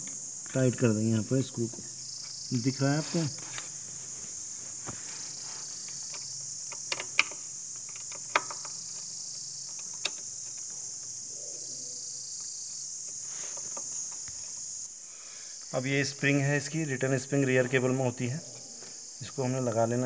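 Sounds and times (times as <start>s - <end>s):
steady high-pitched hiss: 0.0s - 20.0s.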